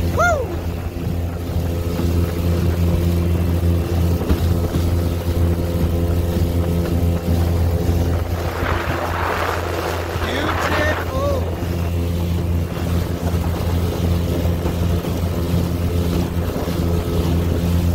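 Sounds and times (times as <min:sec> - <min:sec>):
outboard motor droning: 0:00.0 - 0:17.9
water rushing along hull: 0:00.0 - 0:17.9.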